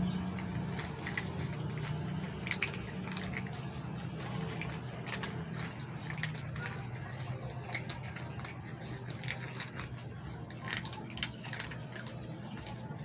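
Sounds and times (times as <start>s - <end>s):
cats crunching dry kibble: 0.0s - 13.0s.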